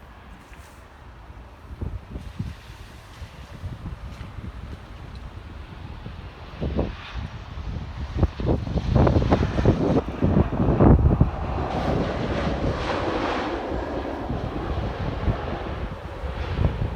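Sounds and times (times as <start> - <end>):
jet engine roar: 0.0 - 16.9
wind buffeting microphone: 1.2 - 16.9.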